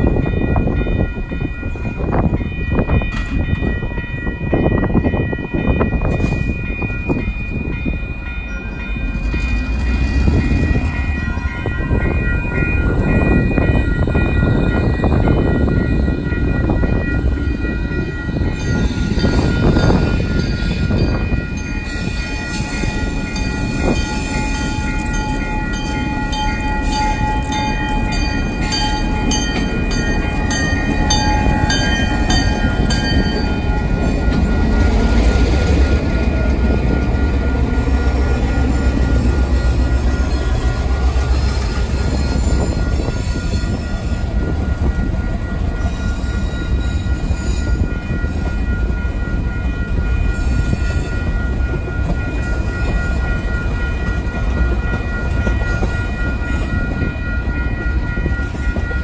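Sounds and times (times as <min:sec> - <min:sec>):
diesel locomotive passing: 0:00.0 - 0:59.0
level-crossing bell ringing: 0:00.0 - 0:59.0
light rail train passing: 0:00.0 - 0:59.0
train wheels clicking on track: 0:08.6 - 0:59.0.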